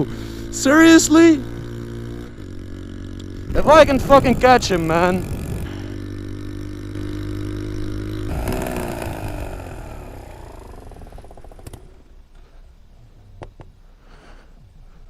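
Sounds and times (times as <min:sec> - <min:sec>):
motorcycle engine slowing: 0:00.0 - 0:13.7.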